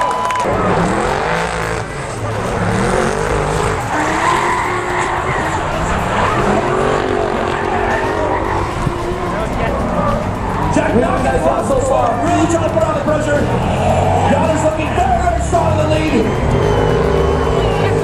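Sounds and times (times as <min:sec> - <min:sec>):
car engines revving: 0:00.0 - 0:18.0
tyres squealing: 0:00.4 - 0:18.0.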